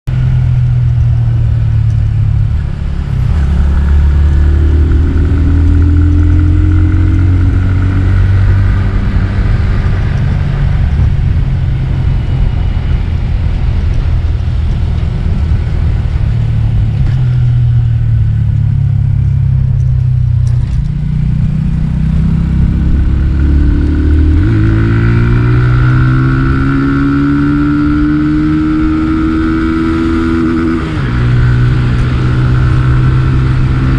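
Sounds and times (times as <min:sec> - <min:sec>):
motorcycle engine running: 0:00.0 - 0:33.9
low wind rumble: 0:00.1 - 0:33.9.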